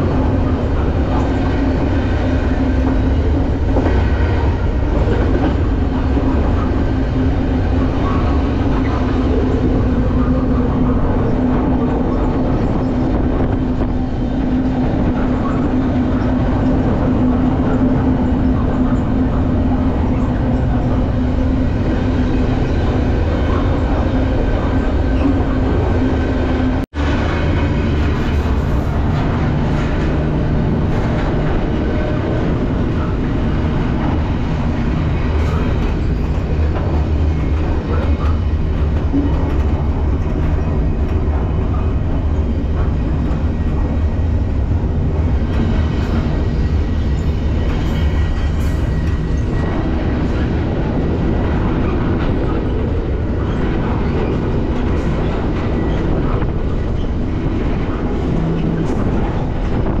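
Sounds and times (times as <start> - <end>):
freight train low rumble: 0.0 - 60.0.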